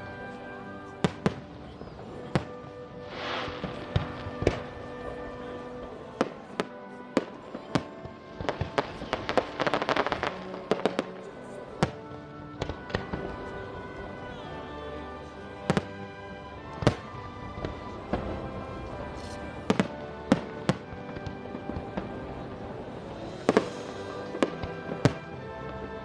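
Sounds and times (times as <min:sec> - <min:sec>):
fireworks crackling: 0:00.0 - 0:26.0
music soundtrack: 0:00.0 - 0:26.0
fireworks bangs: 0:01.0 - 0:14.6, 0:16.7 - 0:26.0.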